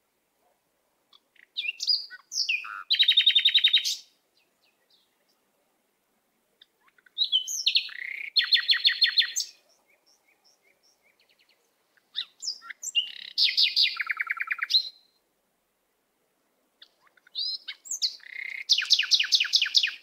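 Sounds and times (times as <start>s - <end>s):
songbird singing: 0.0s - 15.4s, 16.3s - 20.0s
soft bird chirps: 0.4s - 5.6s, 6.5s - 15.2s, 16.8s - 20.0s.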